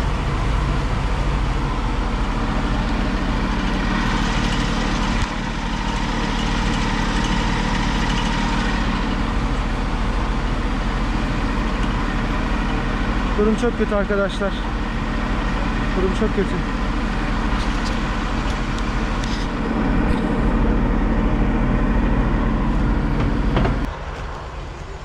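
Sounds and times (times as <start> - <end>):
fire truck engine idling: 0.0 - 25.0.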